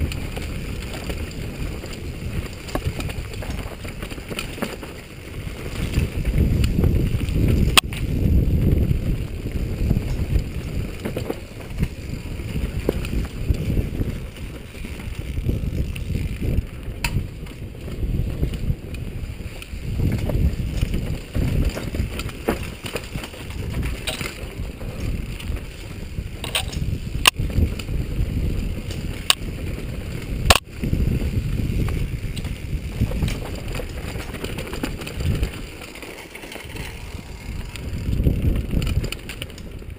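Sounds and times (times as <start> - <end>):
wind buffeting microphone: 0.0 - 35.9, 36.5 - 39.9
bike rattling over bumps: 0.0 - 39.9
bike tyres rumbling over dirt: 0.0 - 39.9.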